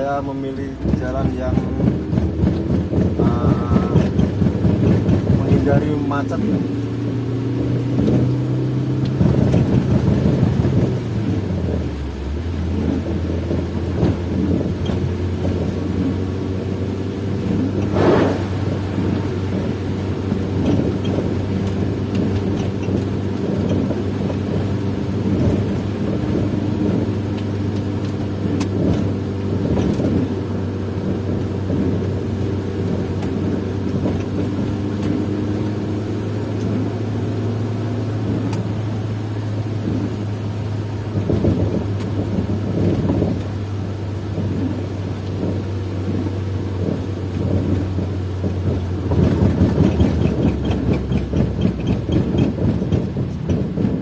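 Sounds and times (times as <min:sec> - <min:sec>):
car engine: 0:00.0 - 0:54.0
road noise on wet road: 0:00.0 - 0:54.0.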